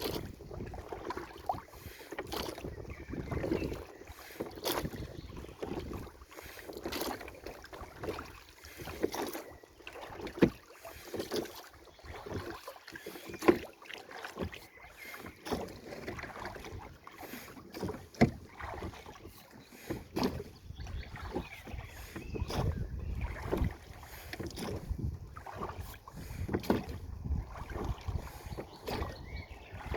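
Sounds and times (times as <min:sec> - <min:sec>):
paddle splashing in water: 0:00.0 - 0:29.9.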